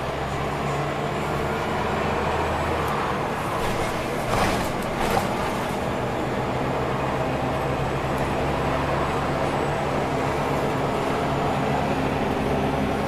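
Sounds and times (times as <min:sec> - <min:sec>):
bus engine drone: 0:00.0 - 0:13.0
road and tyre noise: 0:00.0 - 0:13.0.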